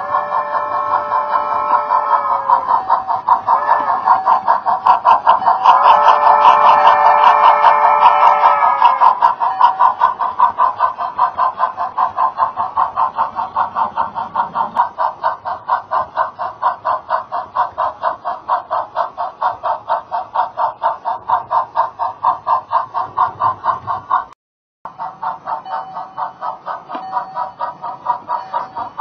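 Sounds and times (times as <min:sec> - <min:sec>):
model steam locomotive chuffing: 0:00.0 - 0:29.0.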